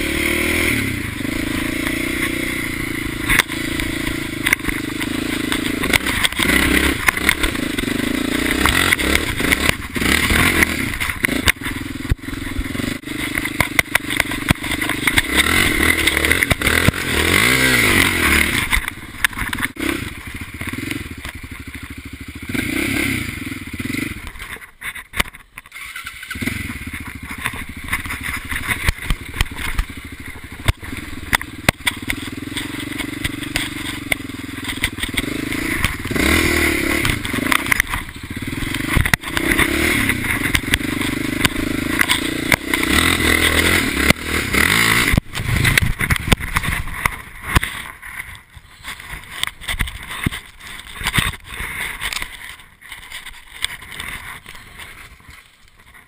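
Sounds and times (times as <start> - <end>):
machine rattling over rough ground: 0.0 - 56.0
quad bike engine revving: 0.0 - 56.0.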